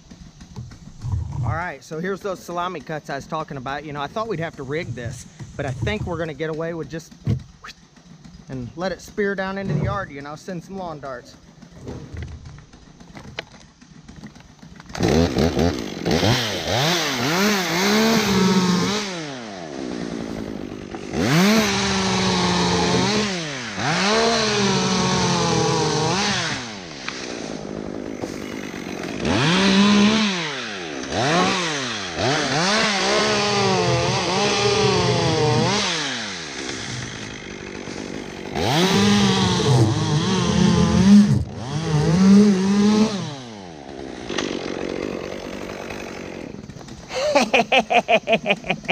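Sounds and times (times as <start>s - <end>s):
chainsaw cutting wood: 0.0s - 1.4s, 2.2s - 48.9s.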